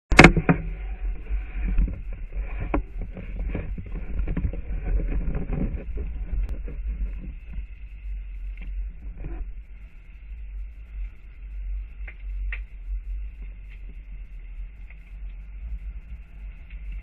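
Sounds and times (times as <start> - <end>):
boat engine rumble: 0.1 - 17.0.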